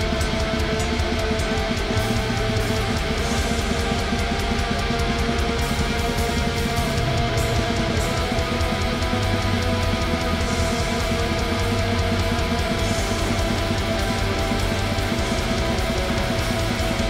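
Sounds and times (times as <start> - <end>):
heavy metal music with guitars and drums: 0.0 - 17.0.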